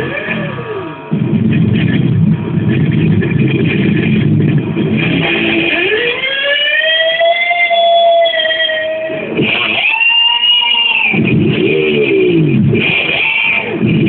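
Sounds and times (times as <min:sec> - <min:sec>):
distorted electric guitar riffing: 0:00.0 - 0:14.0
guitar note swept up in pitch: 0:00.0 - 0:14.0.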